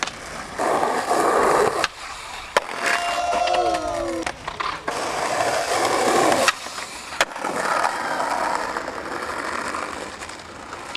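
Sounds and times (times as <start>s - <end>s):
skateboard clacks: 0.0s - 10.9s
skateboard wheels rolling on paving: 0.0s - 10.9s.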